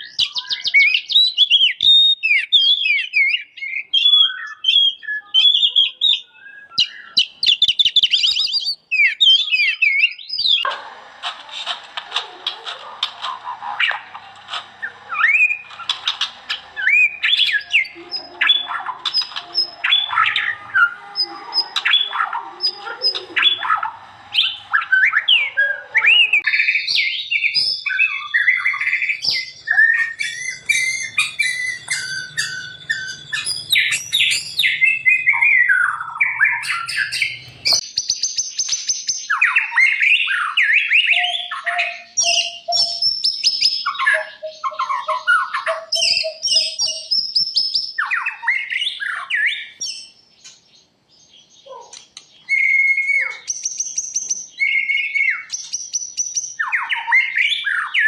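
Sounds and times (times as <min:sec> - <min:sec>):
songbird singing whistles and chatter: 0:00.0 - 0:10.7, 0:11.6 - 0:58.0.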